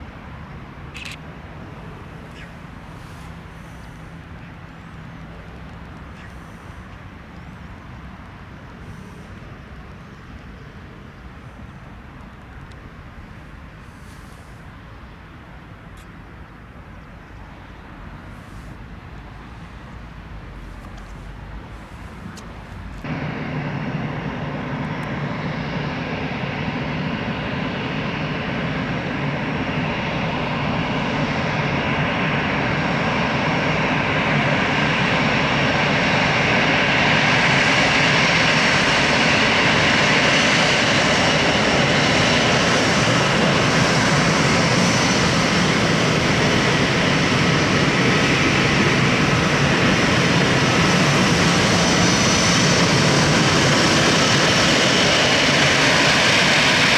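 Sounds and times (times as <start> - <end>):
jet engines roaring at takeoff: 0.0 - 56.9.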